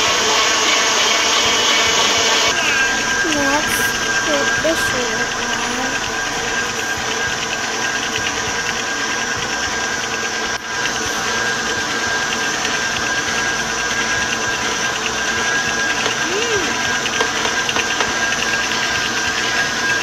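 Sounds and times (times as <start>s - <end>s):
stand mixer motor whining: 0.0s - 20.0s.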